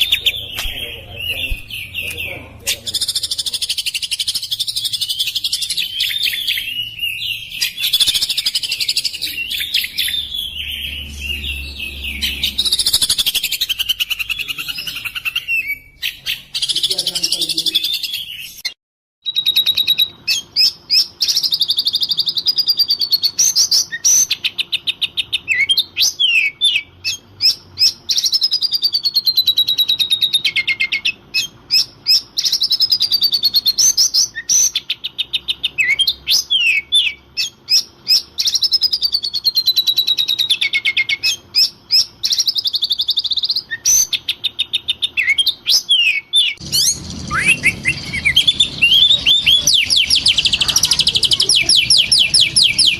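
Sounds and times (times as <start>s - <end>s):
songbird singing rattles and whistles: 0.0s - 52.9s.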